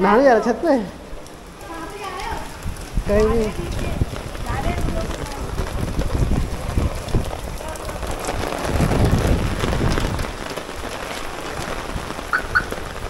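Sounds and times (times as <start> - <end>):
rain on wet pavement: 0.0 - 13.0.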